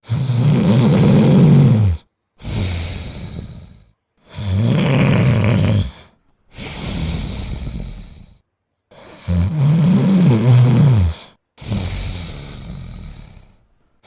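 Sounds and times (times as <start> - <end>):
dog snoring loudly: 0.0 - 13.6.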